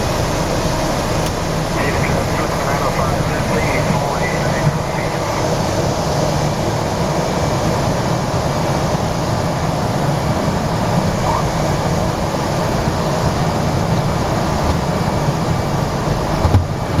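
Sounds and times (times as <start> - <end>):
propeller airplane cabin drone: 0.0 - 17.0.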